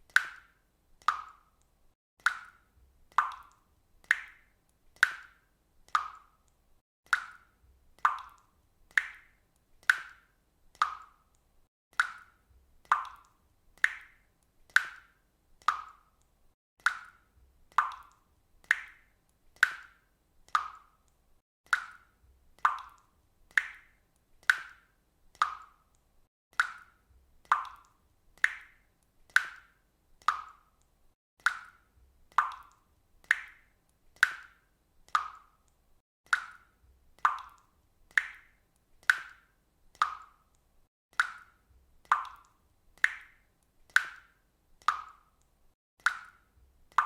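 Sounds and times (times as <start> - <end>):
water dripping: 0.0 - 47.0.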